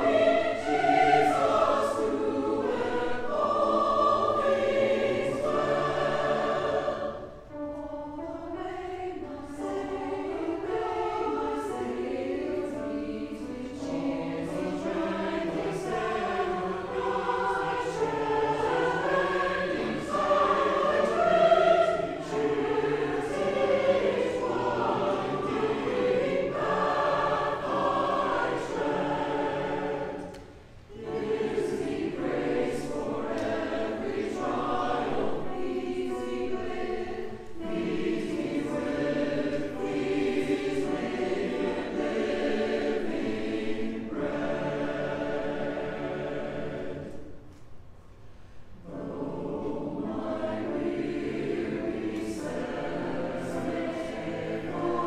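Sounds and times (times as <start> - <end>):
mixed choir singing: 0.0 - 47.5, 48.7 - 55.0.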